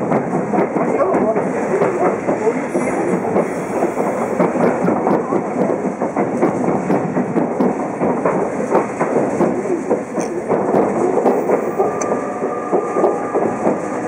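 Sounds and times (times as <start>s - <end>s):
wheel-on-rail noise: 0.0s - 14.0s
track clicks: 1.8s - 14.0s.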